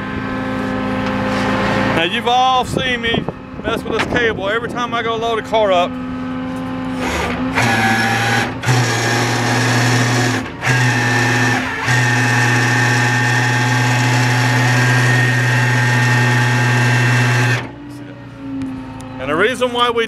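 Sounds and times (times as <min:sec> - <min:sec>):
winch motor whine: 0:00.0 - 0:20.0.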